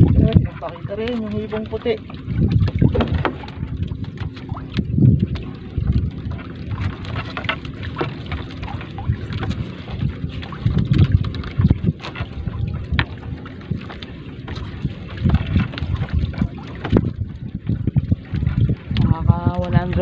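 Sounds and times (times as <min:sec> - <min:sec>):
gusty wind on microphone: 0:00.0 - 0:20.0
net rustling and knocking on boat: 0:00.0 - 0:20.0.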